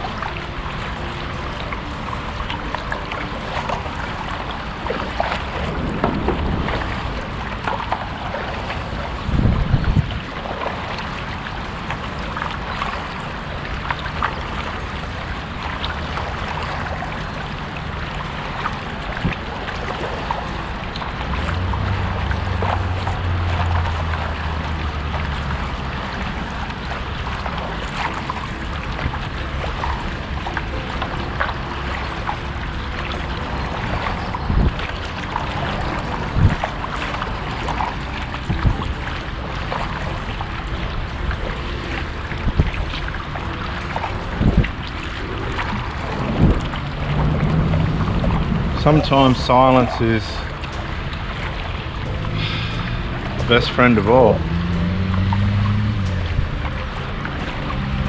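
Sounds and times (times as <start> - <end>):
low rumble: 0.0 - 58.0
water lapping and splashing: 0.0 - 58.0
wind on microphone: 0.0 - 58.0.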